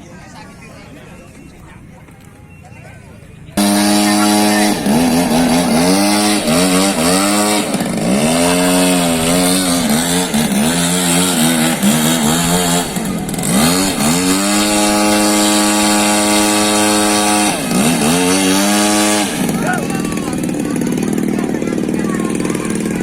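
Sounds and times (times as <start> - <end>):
model plane engine in flight: 3.6 - 23.0.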